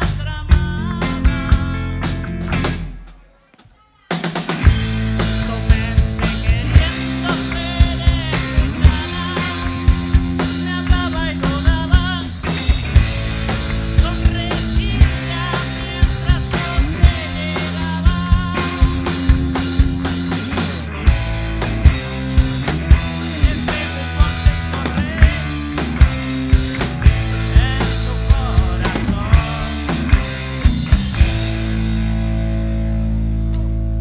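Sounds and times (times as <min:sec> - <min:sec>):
rock band playing: 0:00.0 - 0:03.2, 0:04.1 - 0:34.0
drum kit beating: 0:00.0 - 0:33.7.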